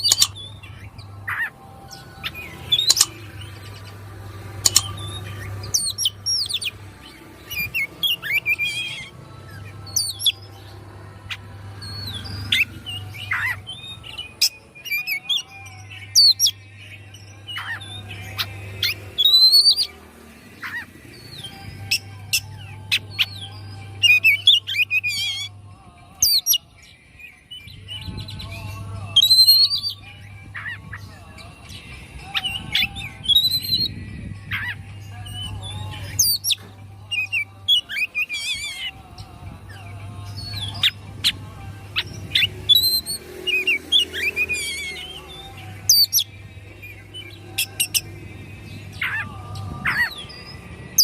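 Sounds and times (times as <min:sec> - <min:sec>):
bird singing: 0:00.0 - 0:51.0.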